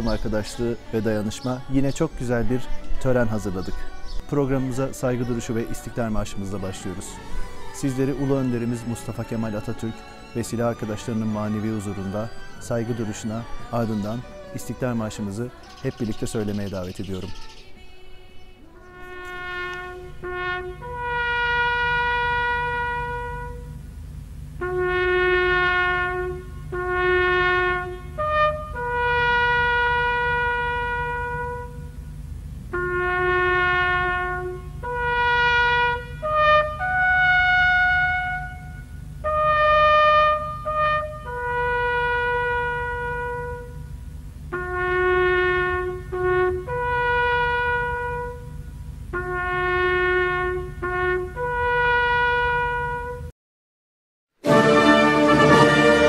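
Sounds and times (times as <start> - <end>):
bugle long held notes: 0.0 - 15.6, 18.6 - 24.0, 24.6 - 53.3, 54.4 - 56.0
low steady hum: 0.0 - 53.3.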